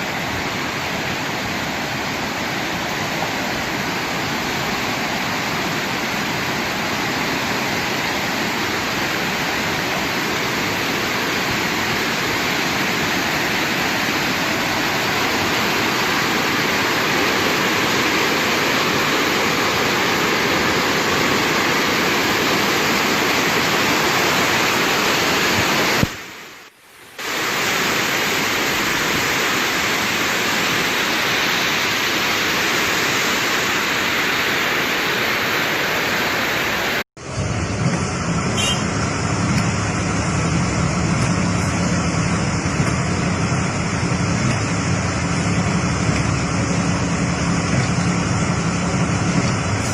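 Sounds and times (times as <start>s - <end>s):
storm water rushing: 0.0s - 49.9s.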